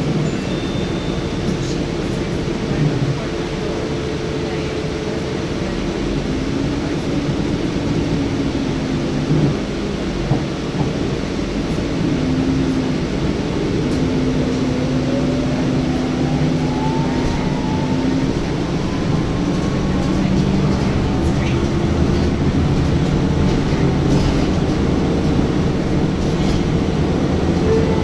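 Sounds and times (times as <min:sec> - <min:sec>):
bus drivetrain hum: 0:00.0 - 0:28.0
road noise: 0:00.0 - 0:28.0.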